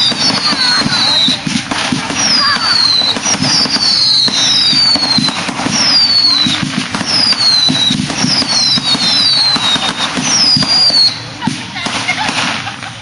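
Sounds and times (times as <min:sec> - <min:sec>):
fireworks crackling and popping: 0:00.0 - 0:13.0
fireworks whistling: 0:00.0 - 0:13.0
low thumps of fireworks: 0:00.0 - 0:13.0.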